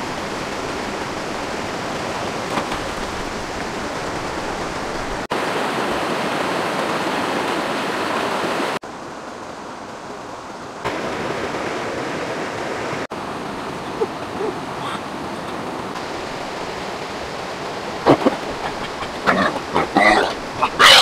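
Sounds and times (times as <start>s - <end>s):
water rushing over rocks: 0.0s - 21.0s.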